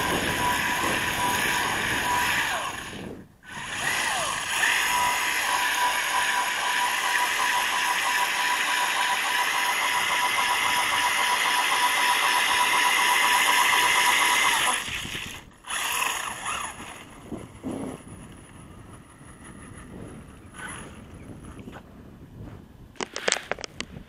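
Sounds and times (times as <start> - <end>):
small electric motor whining: 0.0 - 21.8.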